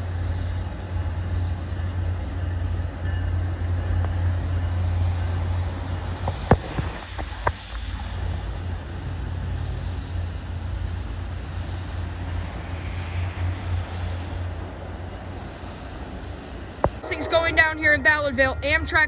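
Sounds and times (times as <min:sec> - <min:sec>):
train pulling away rumbling: 0:00.0 - 0:19.0.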